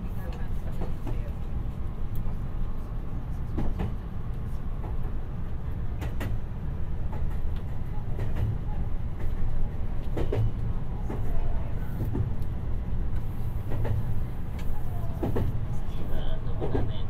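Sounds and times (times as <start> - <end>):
train interior low rumble: 0.0 - 17.0.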